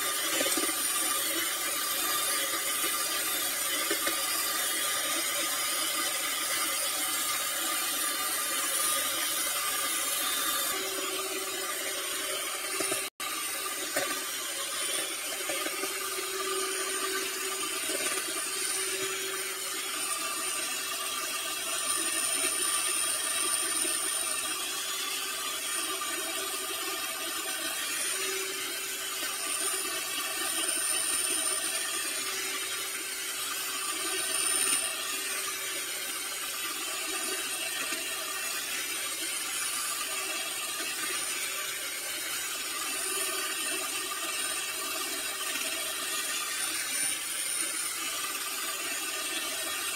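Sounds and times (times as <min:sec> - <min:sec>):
electric hand mixer whipping: 0:00.0 - 0:49.9.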